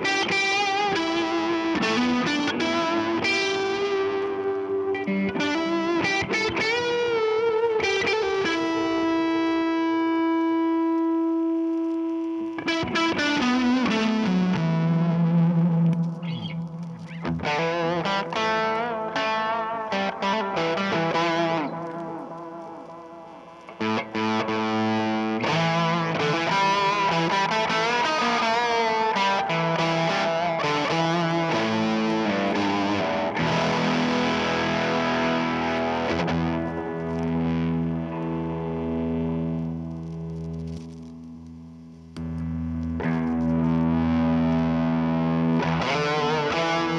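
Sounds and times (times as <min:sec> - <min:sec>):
distorted electric guitar: 0:00.0 - 0:46.9.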